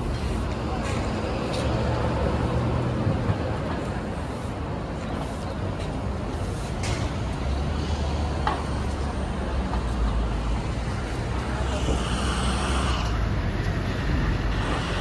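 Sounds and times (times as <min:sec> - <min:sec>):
bus engine rumble: 0:00.0 - 0:15.0
passing traffic: 0:00.0 - 0:15.0.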